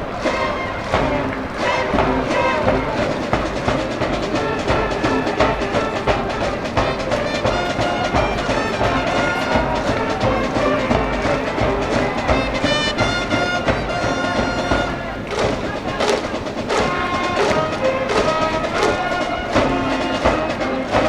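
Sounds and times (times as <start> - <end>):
brass band playing: 0.0 - 21.0
steady drumbeat: 0.0 - 21.0.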